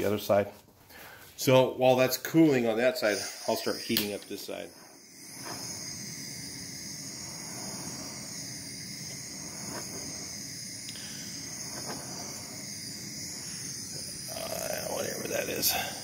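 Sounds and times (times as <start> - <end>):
gas torch hissing: 0.9 - 16.0.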